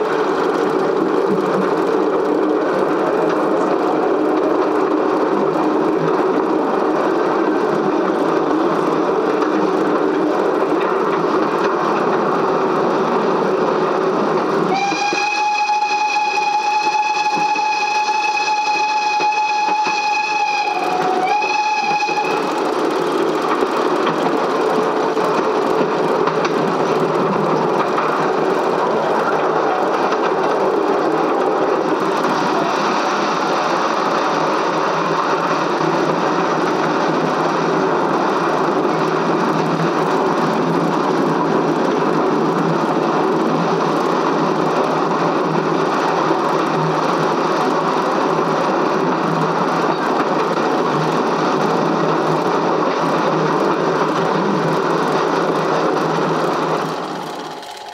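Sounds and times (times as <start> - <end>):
train running: 0.0 - 57.9.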